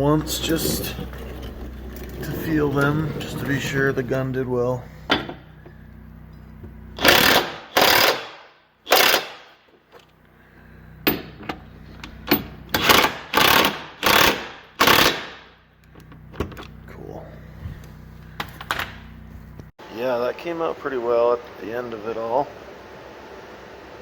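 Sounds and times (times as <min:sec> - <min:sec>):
steady low hum: 0:00.0 - 0:08.9, 0:09.8 - 0:22.8.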